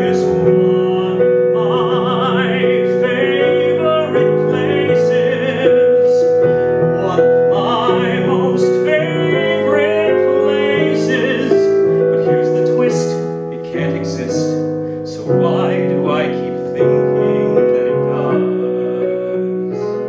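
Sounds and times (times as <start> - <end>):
person singing with vibrato: 0.0 - 20.0
piano accompaniment: 0.0 - 20.0.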